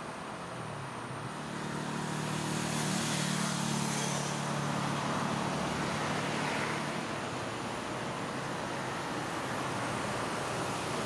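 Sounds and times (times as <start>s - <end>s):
road vehicle passing: 0.0s - 11.0s.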